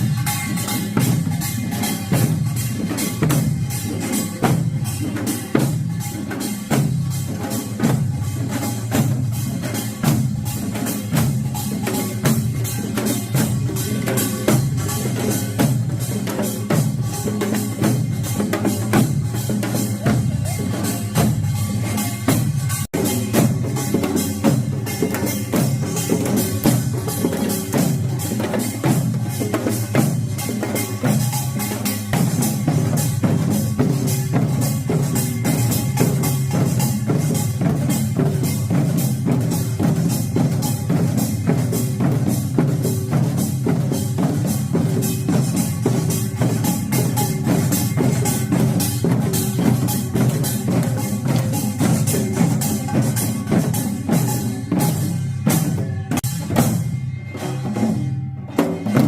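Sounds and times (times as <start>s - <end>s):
drum and gong strikes: 0.0s - 59.0s
percussion ensemble playing: 0.0s - 59.0s.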